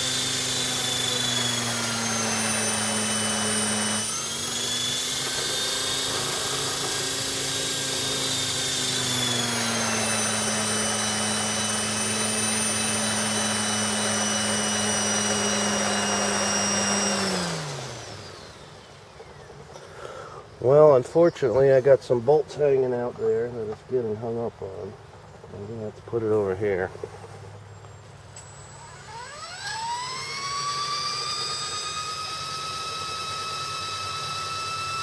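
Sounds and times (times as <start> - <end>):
rc helicopter motor whine: 0.0 - 20.7, 22.9 - 35.0
rotor blades whirring: 0.0 - 35.0.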